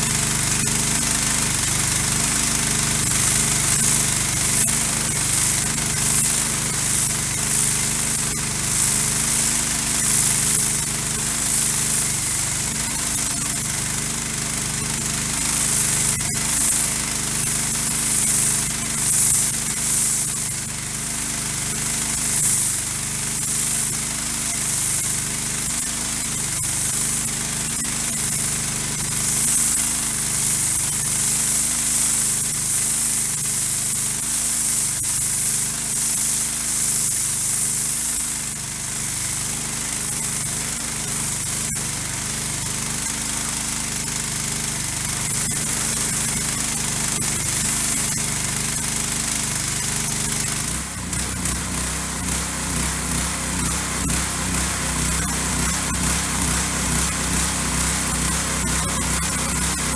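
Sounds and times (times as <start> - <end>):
pressure washer engine droning: 0.0 - 59.9.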